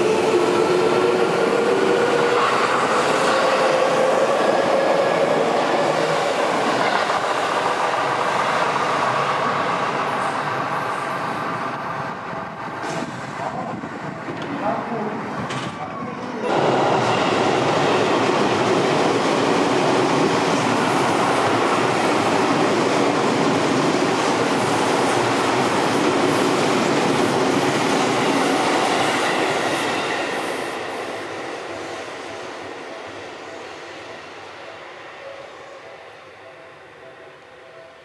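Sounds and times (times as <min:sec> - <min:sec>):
electric train rumbling on rails: 0:00.0 - 0:38.0.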